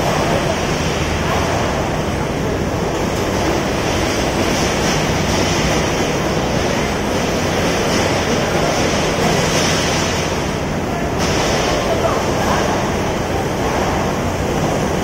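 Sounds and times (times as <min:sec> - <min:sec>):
construction machinery roar: 0:00.0 - 0:15.0.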